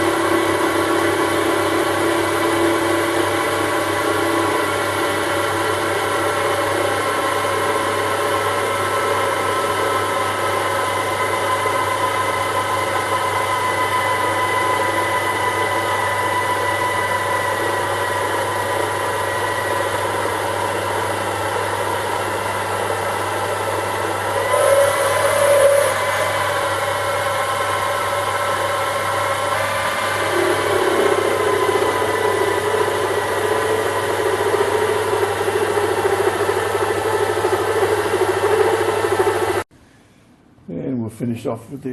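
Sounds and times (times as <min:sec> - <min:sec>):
lathe motor whine: 0:00.0 - 0:39.6.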